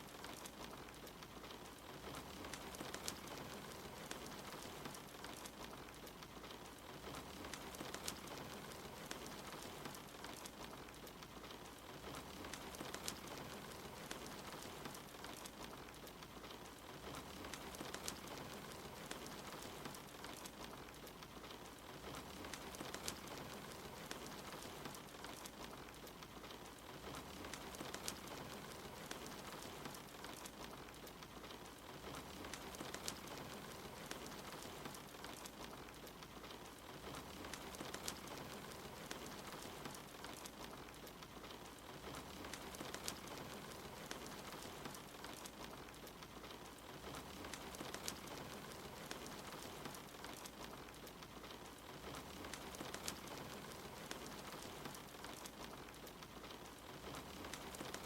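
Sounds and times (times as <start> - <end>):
soft rain falling: 0.0 - 58.0
wood fire crackling: 0.0 - 58.0.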